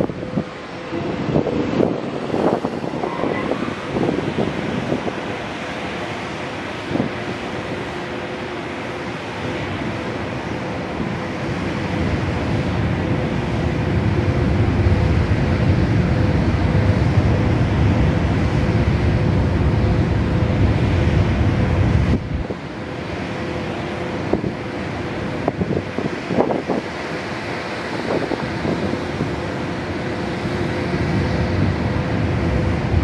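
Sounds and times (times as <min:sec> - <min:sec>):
electric locomotive machinery hum: 0:00.0 - 0:33.0
wind buffeting microphone: 0:00.0 - 0:33.0.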